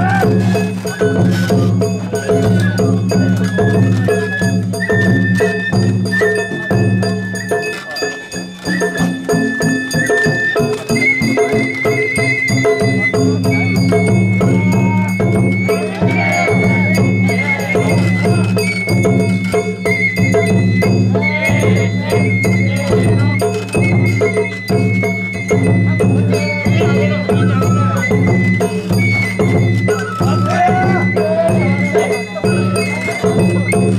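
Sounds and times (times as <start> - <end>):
drums: 0.0 - 33.9
high flute melody with trills: 0.0 - 33.9
metallic percussion strikes: 0.0 - 33.9.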